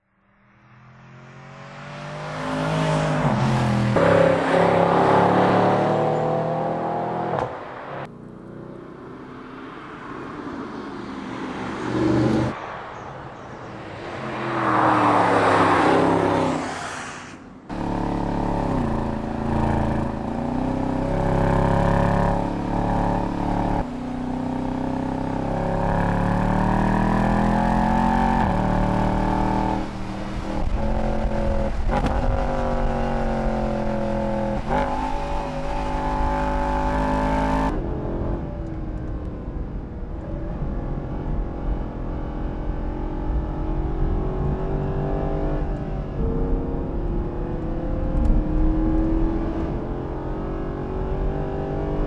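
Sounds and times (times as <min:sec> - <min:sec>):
car engine revving: 0:00.8 - 0:09.6, 0:17.6 - 0:52.0.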